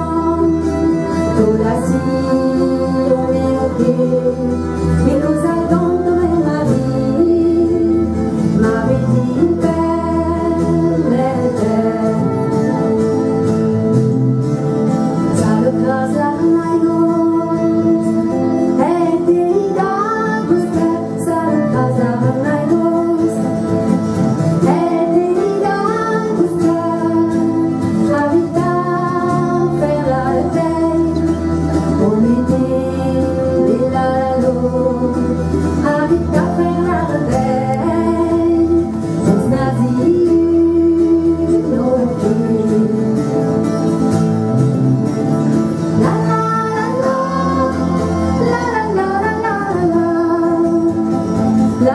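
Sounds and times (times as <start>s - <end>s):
woman singing: 0.0s - 13.8s, 15.2s - 23.9s, 24.6s - 43.8s, 45.9s - 51.9s
acoustic guitars playing: 0.0s - 51.9s.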